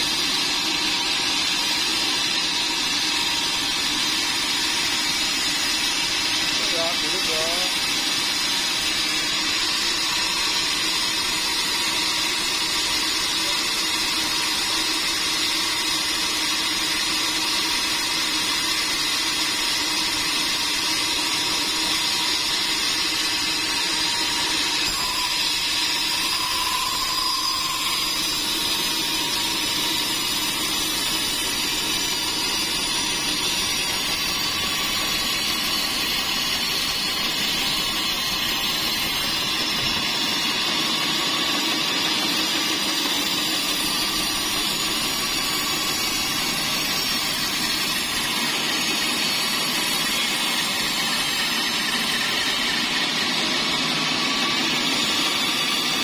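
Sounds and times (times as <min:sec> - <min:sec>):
band sawmill drone: 0:00.0 - 0:56.0.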